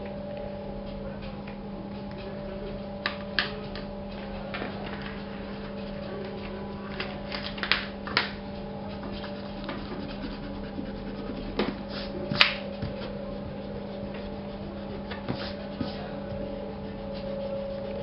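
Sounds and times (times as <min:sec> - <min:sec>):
low electrical hum: 0:00.0 - 0:18.0
drawing strokes on paper: 0:01.9 - 0:07.3, 0:08.4 - 0:18.0.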